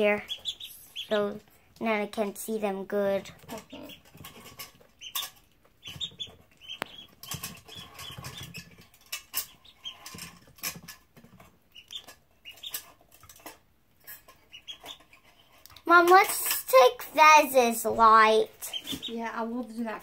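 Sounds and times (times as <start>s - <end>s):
ducklings peeping: 0.0s - 20.0s.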